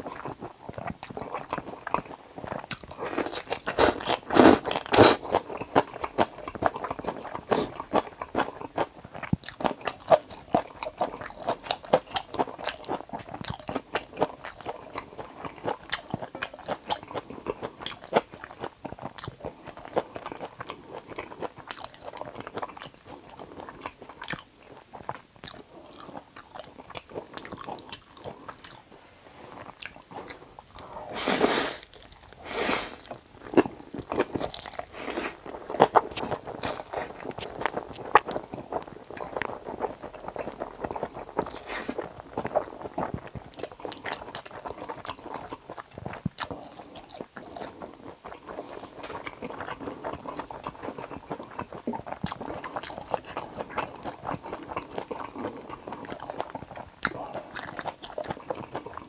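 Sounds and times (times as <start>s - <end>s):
chewing with wet mouth clicks: 0.0s - 28.9s, 29.5s - 31.0s, 33.0s - 59.0s.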